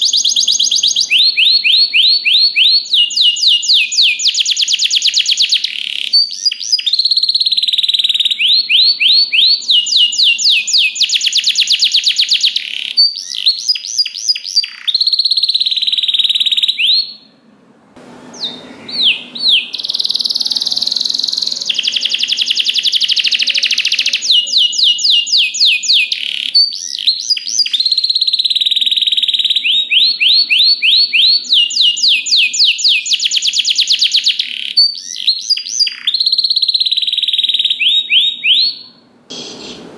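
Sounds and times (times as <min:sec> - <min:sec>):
canary singing trills: 0:00.0 - 0:17.4, 0:18.3 - 0:39.9.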